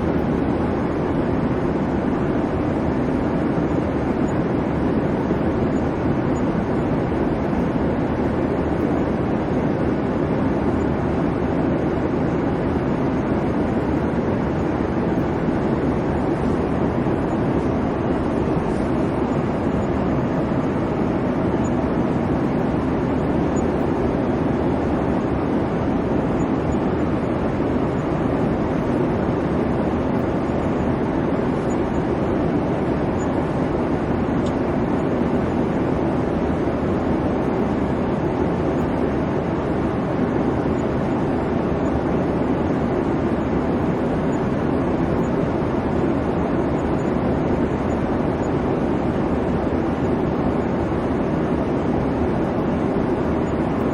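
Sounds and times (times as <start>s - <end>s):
airliner cabin engine rumble: 0.0s - 53.9s.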